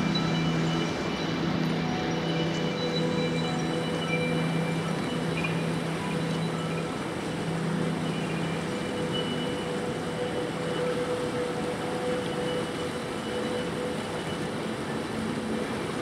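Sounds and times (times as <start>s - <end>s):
ambient music tones: 0.0s - 16.0s.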